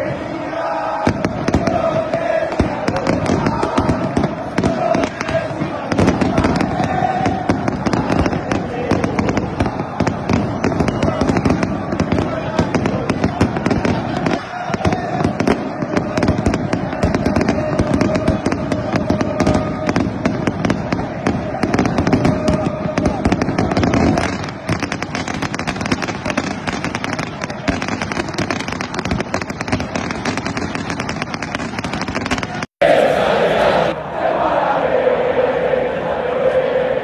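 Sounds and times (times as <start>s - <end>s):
stadium crowd noise: 0.0s - 37.0s
firecrackers crackling: 0.1s - 32.7s.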